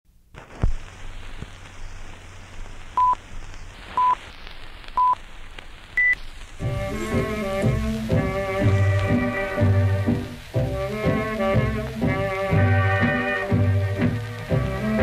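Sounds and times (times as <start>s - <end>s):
old film crackle and hiss: 0.2s - 15.0s.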